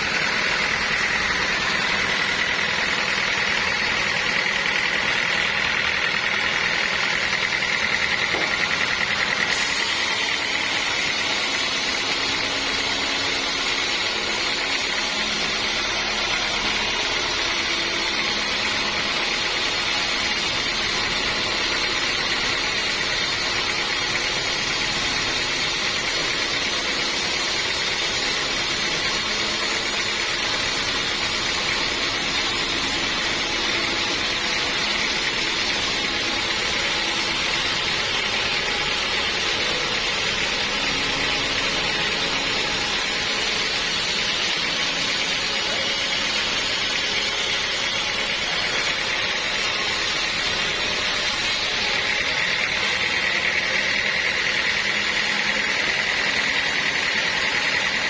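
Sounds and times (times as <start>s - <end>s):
saw whirring through log: 0.0s - 58.0s.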